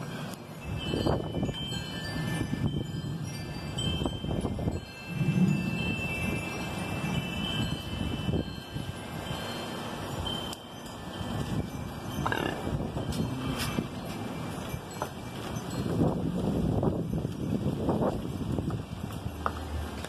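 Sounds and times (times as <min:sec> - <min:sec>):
gusty wind rushing: 0:00.0 - 0:20.0
wind chimes ringing: 0:00.0 - 0:20.0.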